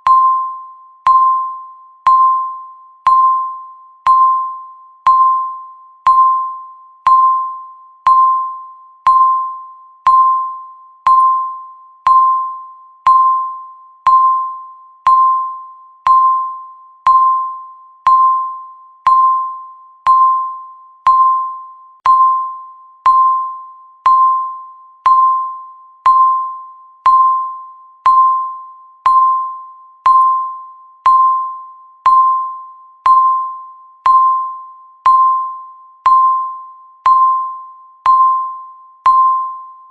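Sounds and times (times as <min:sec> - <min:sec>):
electronic timer ping: 0:00.0 - 0:39.9.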